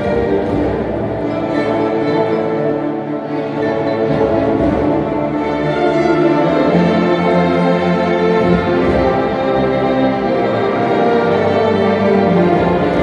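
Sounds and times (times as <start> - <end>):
bowed strings: 0.0 - 13.0.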